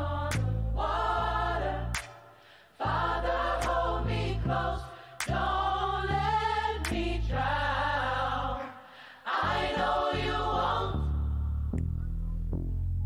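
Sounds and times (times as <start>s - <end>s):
low bass notes: 0.0s - 2.1s, 2.9s - 8.6s, 9.4s - 13.0s
gospel choir singing: 0.0s - 11.5s.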